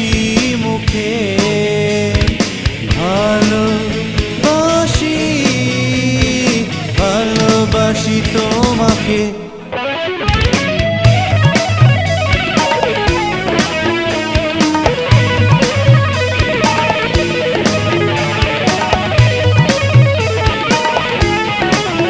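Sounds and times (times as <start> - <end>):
bass and drums: 0.0 - 9.4, 10.3 - 22.0
electric guitar: 0.0 - 22.0.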